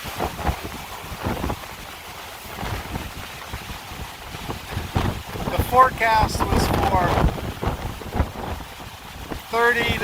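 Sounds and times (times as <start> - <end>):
rushing wind roar: 0.0 - 10.0
wind buffeting microphone: 0.0 - 10.0.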